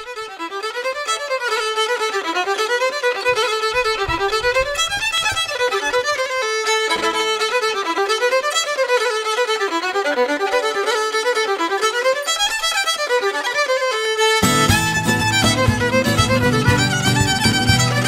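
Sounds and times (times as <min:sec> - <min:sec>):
solo fiddle tune: 0:00.0 - 0:18.0.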